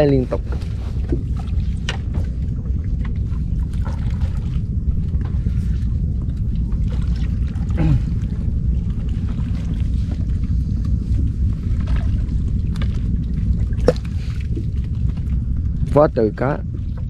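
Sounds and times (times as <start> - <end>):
boat low rumble: 0.0 - 17.0.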